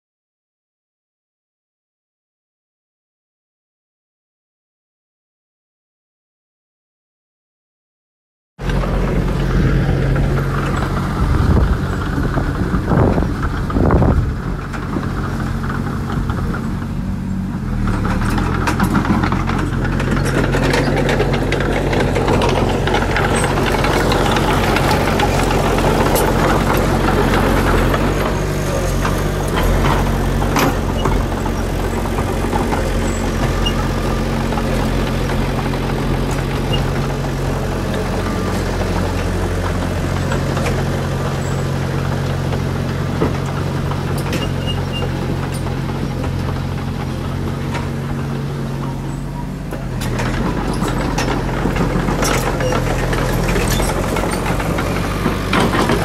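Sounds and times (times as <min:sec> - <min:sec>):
bulldozer diesel engine running: 0:08.6 - 0:56.0.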